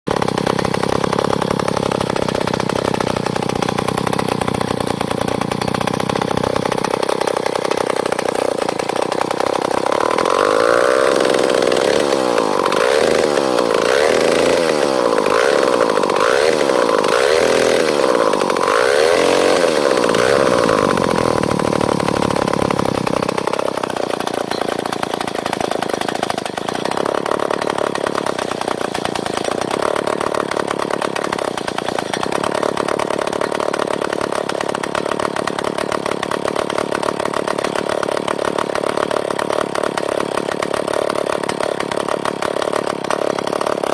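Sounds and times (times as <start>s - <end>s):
chainsaw engine revving: 0.1s - 43.9s.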